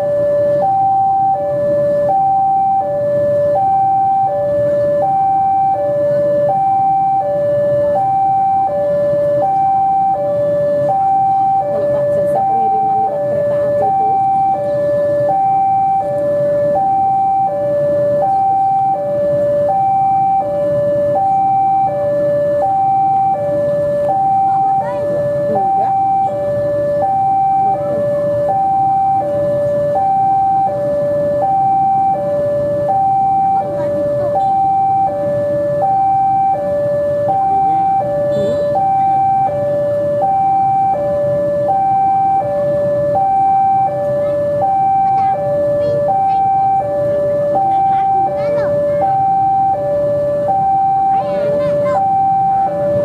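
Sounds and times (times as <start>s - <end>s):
diesel locomotive rumble: 0.0s - 53.0s
two-tone electronic warning alarm: 0.0s - 53.0s.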